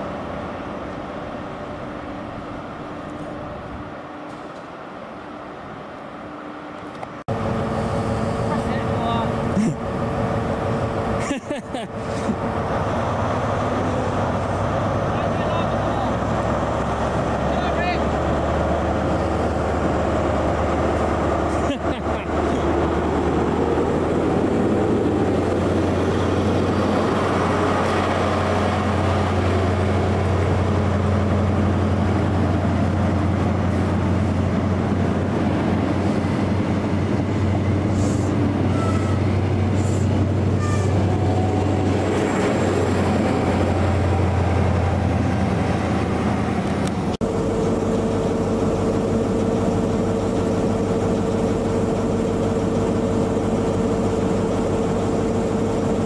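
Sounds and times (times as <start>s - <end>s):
diesel engine drone: 0.0s - 56.0s
rail noise: 0.0s - 56.0s.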